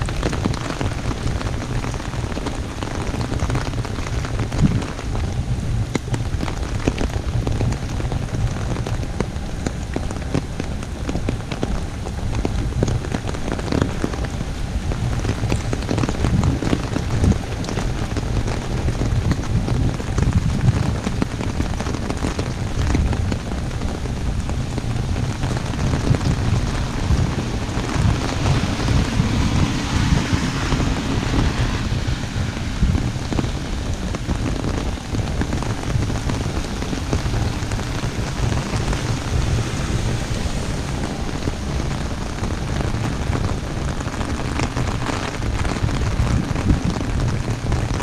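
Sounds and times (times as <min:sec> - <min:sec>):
rain drops hitting umbrella: 0:00.0 - 0:48.0.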